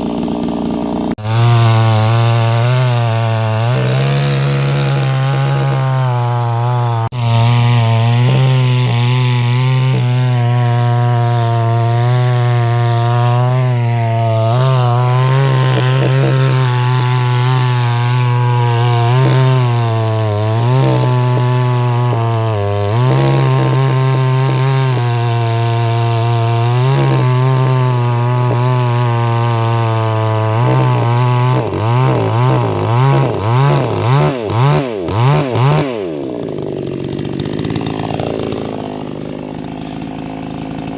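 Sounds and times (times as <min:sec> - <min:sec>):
chainsaw cutting through tree: 0:00.0 - 0:40.9.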